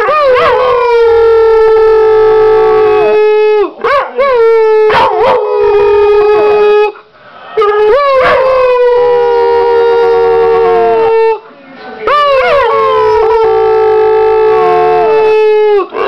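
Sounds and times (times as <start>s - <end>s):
dog howling: 0.0s - 7.0s, 7.6s - 11.4s, 12.1s - 16.0s.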